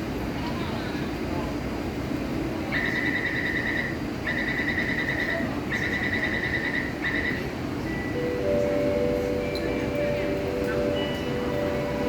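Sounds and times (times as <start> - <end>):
low multi-tone hum: 0.0 - 12.0
train and station rumble: 0.0 - 12.0.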